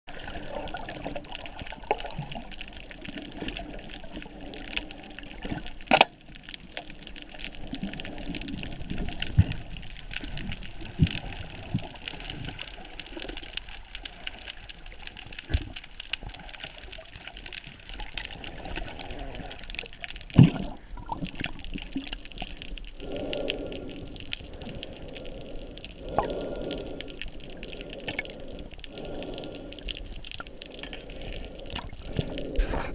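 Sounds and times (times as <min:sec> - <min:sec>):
underwater water noise: 0:00.1 - 0:32.9
fine crackling clicks: 0:00.9 - 0:32.8.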